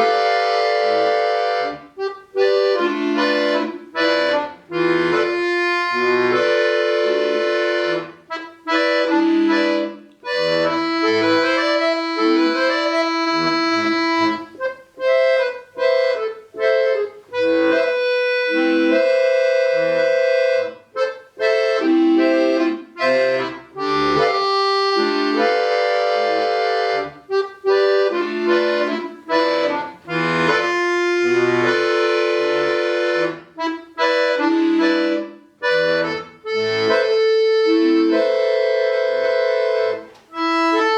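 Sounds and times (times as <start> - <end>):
button accordion playing: 0.0 - 40.9.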